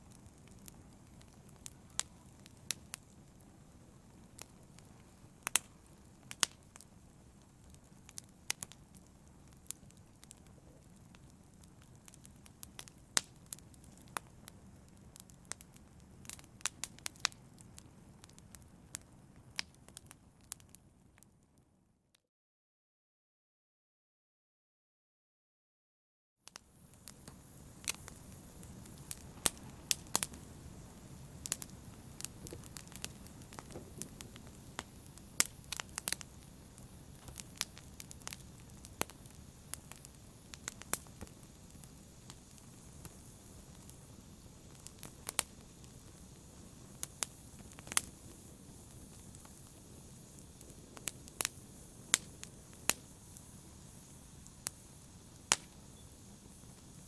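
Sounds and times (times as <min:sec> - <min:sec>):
fire rumbling: 0:00.0 - 0:21.2, 0:26.6 - 0:57.0
fire popping and crackling: 0:00.0 - 0:21.3, 0:26.5 - 0:57.0.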